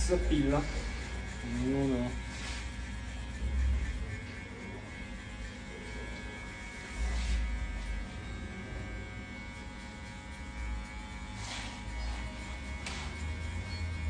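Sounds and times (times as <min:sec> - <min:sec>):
electric hair clippers humming: 0:00.0 - 0:14.0.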